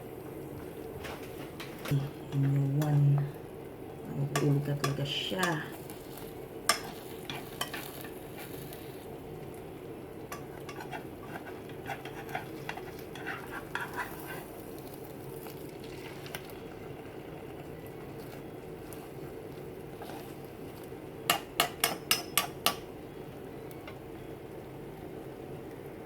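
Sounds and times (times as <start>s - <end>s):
food sizzling in a frying pan: 2.1s - 23.0s.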